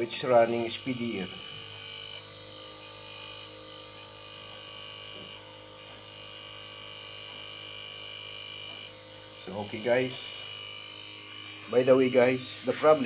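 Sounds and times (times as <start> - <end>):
air conditioner compressor humming: 0.0 - 13.0.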